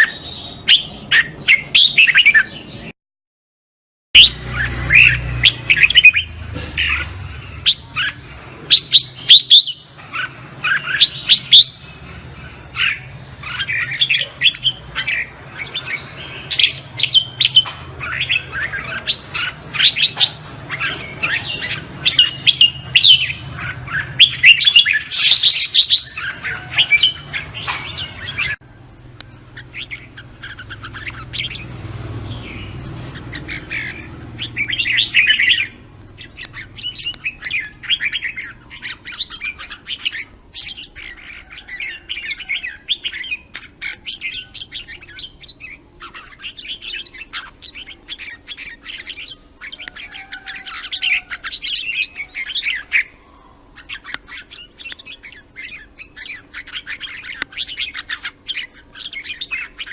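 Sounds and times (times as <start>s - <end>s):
birds singing: 0.0s - 3.0s, 4.2s - 59.9s.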